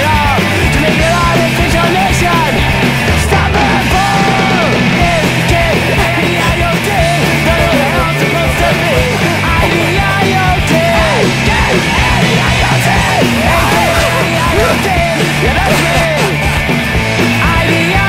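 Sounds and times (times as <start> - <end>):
loud rock music: 0.0 - 18.0
person shouting singing: 0.0 - 18.0.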